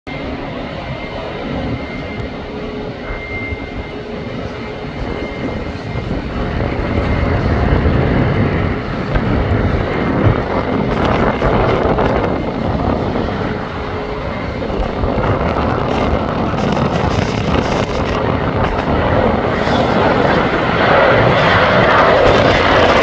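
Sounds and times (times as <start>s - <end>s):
jet engine rumble: 0.1s - 23.0s.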